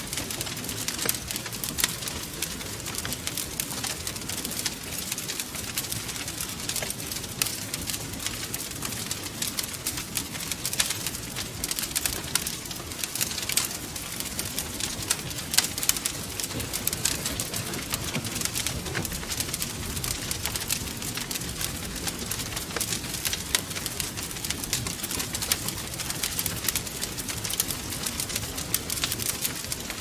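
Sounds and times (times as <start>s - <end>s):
low rumble of flames: 0.0s - 30.0s
wood fire crackling: 0.0s - 30.0s.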